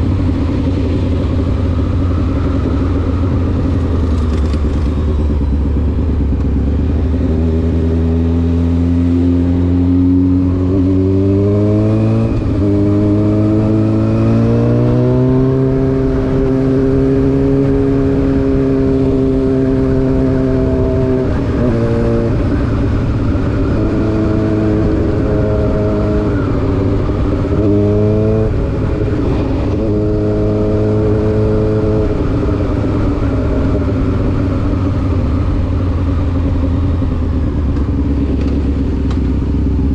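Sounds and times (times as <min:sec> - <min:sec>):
motorcycle engine revving: 0:00.0 - 0:39.9
wind and road rumble: 0:00.0 - 0:39.9.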